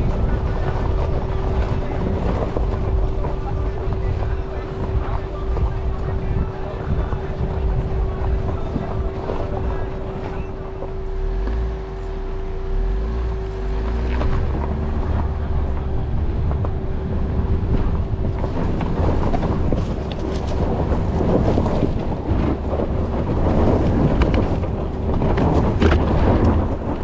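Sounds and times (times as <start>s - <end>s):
engine rumbling: 0.0s - 27.0s
tyres crunching over stones: 0.0s - 27.0s
wind buffeting microphone: 0.0s - 27.0s.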